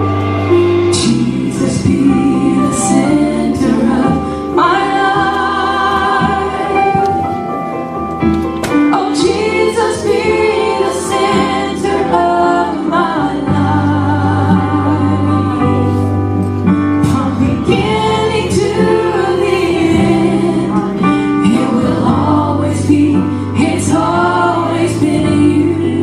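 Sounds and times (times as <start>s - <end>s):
voices singing with vibrato: 0.0s - 7.6s, 8.9s - 16.3s, 17.0s - 26.0s
steady bass line: 0.0s - 26.0s.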